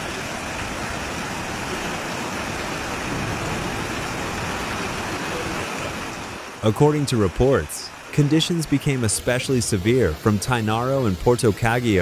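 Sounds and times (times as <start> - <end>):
storm water rushing: 0.0 - 12.0.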